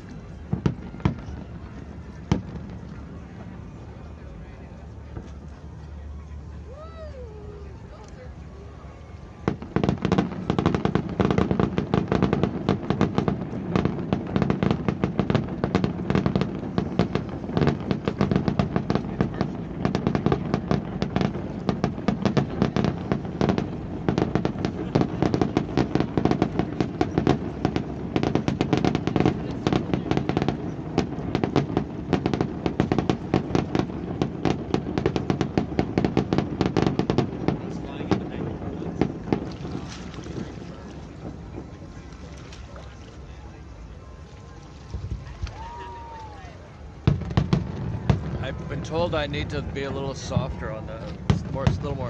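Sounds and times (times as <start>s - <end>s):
fireworks bangs and crackles: 0.0s - 5.7s, 8.2s - 52.0s.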